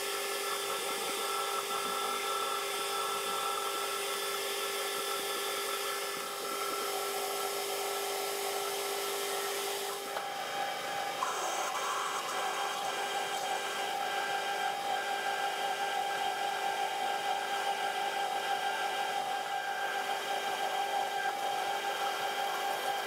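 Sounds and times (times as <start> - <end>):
drill cutting metal: 0.0 - 23.0
metal lathe humming: 0.0 - 23.0.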